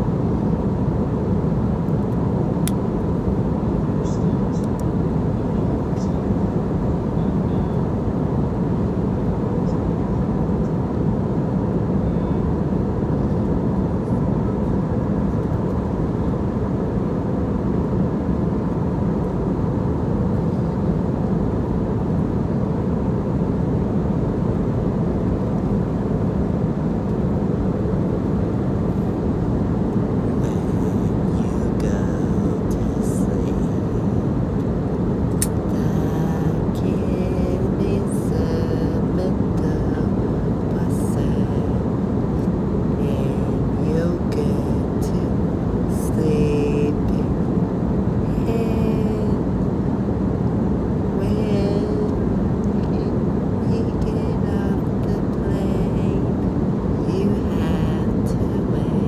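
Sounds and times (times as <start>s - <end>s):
engine and airflow rush: 0.0s - 59.0s
faint steady hum: 0.0s - 59.0s.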